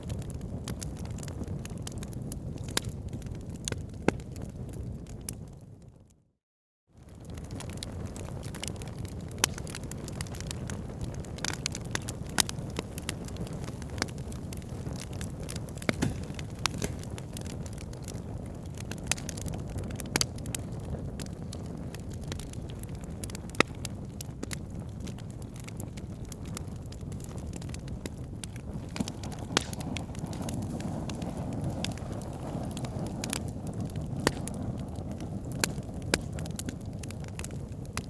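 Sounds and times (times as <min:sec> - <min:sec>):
wood fire flames rushing: 0:00.0 - 0:05.6, 0:07.0 - 0:38.0
fire crackling and popping: 0:00.0 - 0:06.1, 0:07.0 - 0:38.0.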